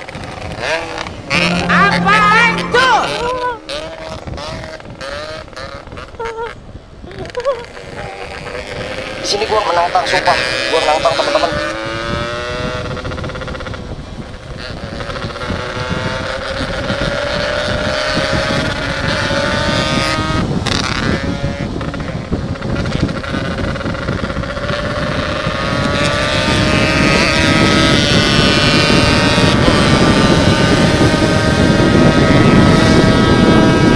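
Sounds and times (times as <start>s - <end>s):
two-stroke motorcycle accelerating: 0.0s - 33.9s.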